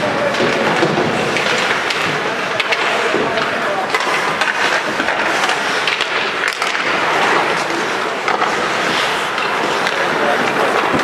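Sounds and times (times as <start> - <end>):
hockey sticks clacking: 0.0 - 11.0
skates scraping ice: 0.0 - 11.0.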